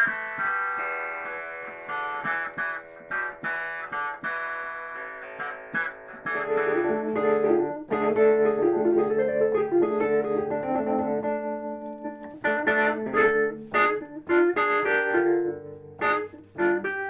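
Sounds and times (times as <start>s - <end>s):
electric piano playing chords: 0.0s - 17.0s.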